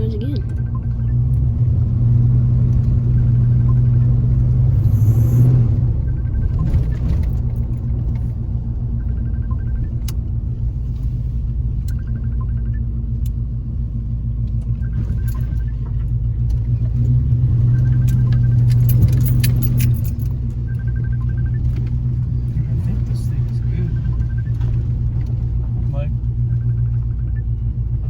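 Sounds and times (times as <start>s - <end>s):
truck engine rumble from cab: 0.0s - 28.0s.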